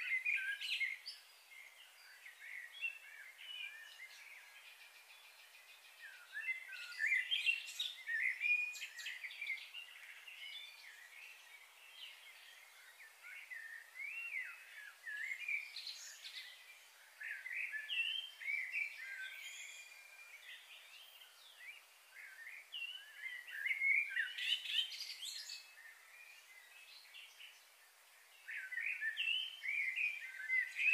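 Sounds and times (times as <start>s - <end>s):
faint steady hiss: 0.0s - 30.9s
songbirds singing: 0.0s - 30.9s.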